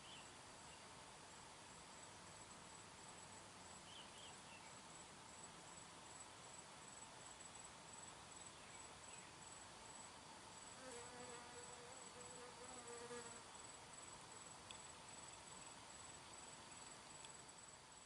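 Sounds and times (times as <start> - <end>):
insect chirping trill: 0.0 - 18.0.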